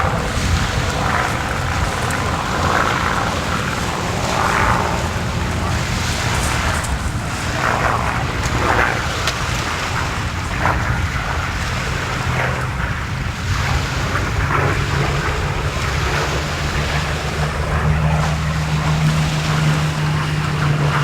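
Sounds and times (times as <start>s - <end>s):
low engine drone: 0.0s - 21.0s
wind buffeting microphone: 0.0s - 21.0s.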